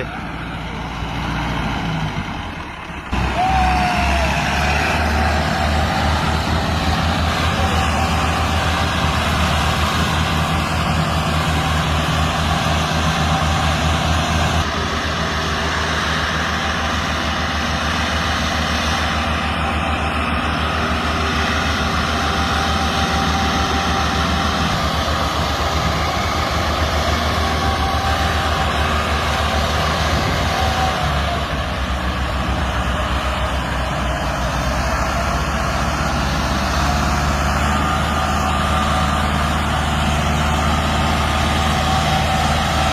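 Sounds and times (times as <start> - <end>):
tractor diesel engines under load: 0.0 - 42.9.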